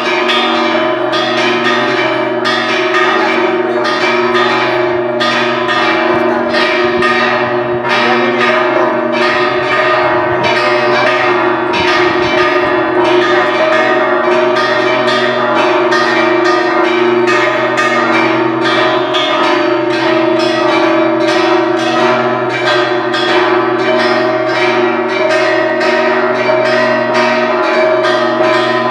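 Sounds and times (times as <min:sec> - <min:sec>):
church bells pealing: 0:00.0 - 0:28.9.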